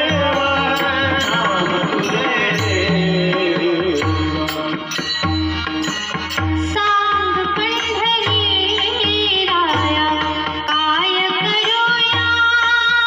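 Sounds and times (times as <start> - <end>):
steady hand-drum beat: 0.0 - 13.0.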